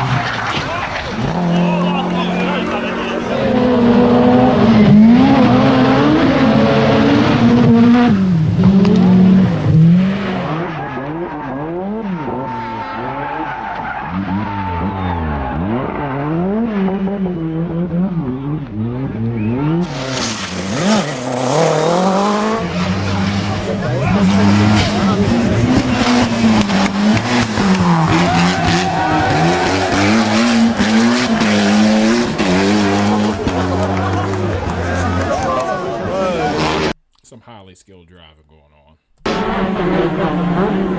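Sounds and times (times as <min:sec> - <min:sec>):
tyres skidding: 0:00.0 - 0:16.1, 0:19.4 - 0:37.0
rally car engine revving: 0:00.0 - 0:37.0, 0:39.2 - 0:40.9.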